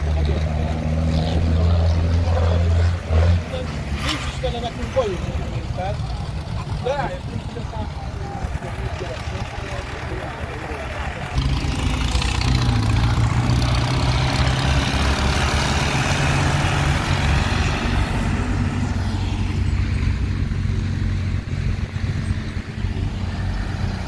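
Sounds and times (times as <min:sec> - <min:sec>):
tractors driving past: 0:00.0 - 0:24.0.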